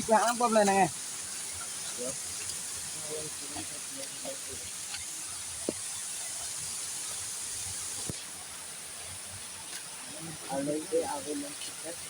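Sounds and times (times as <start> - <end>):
waterfall rushing hiss: 0.0 - 12.0.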